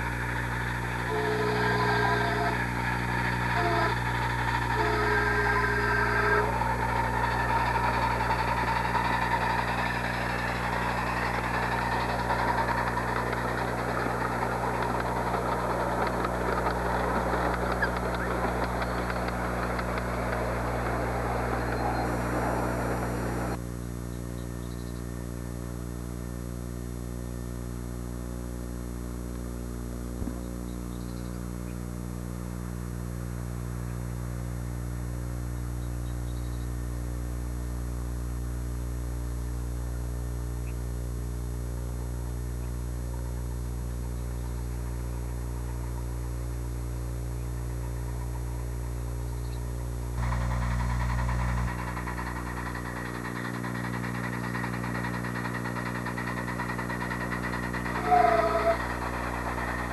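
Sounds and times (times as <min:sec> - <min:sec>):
electrical mains hum: 0:00.0 - 0:59.9
tape hiss: 0:00.0 - 0:59.9.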